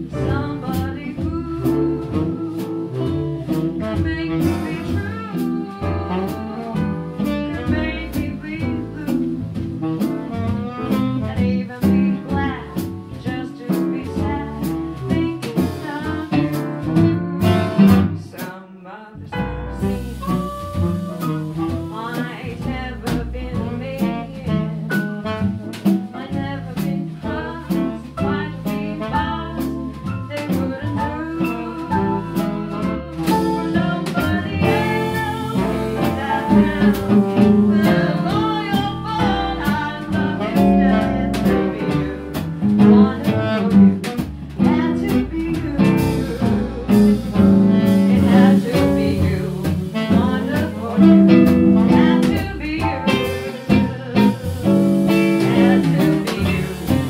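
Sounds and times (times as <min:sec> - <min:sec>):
woman singing into a microphone: 0:00.0 - 0:09.4, 0:10.0 - 0:17.0, 0:17.7 - 0:25.4, 0:26.1 - 0:57.0
swing jazz band playing: 0:00.0 - 0:57.0.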